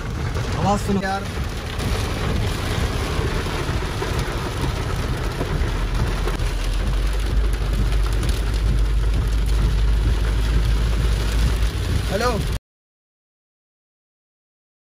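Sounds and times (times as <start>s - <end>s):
deep low rumble: 0.0s - 12.6s
heavy rain on car roof: 0.0s - 12.6s.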